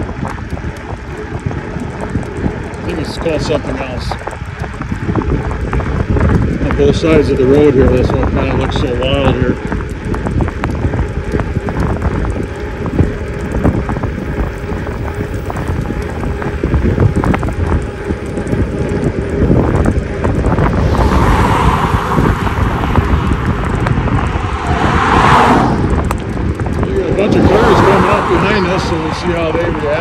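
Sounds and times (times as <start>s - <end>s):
vehicle passing on road: 0.0s - 30.0s
wind buffeting microphone: 0.0s - 30.0s.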